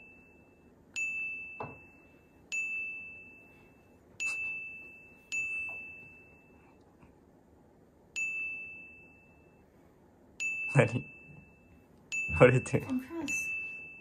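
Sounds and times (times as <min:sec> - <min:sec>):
high bell-like ding: 0:00.0 - 0:06.8, 0:08.2 - 0:09.6, 0:10.4 - 0:14.0.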